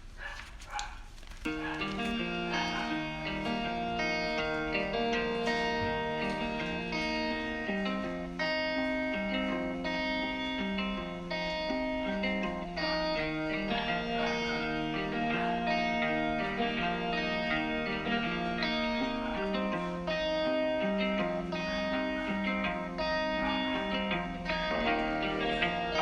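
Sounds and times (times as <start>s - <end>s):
plucked guitar instrumental: 1.5s - 26.0s.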